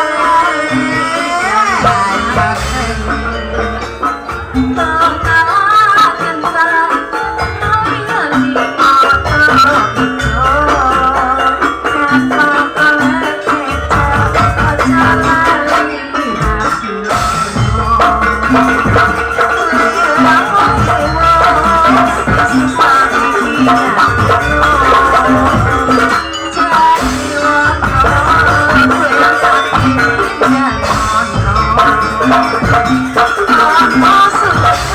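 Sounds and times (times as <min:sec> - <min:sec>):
live folk music: 0:00.0 - 0:34.9
rattles: 0:00.0 - 0:34.9.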